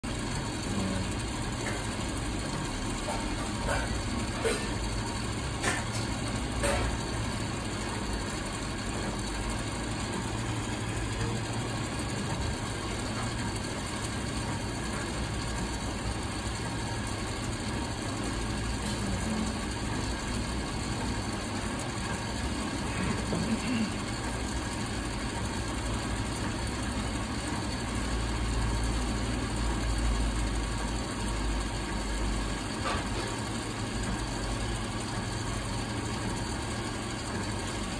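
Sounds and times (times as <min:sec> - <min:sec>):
ice maker humming: 0:00.0 - 0:37.9.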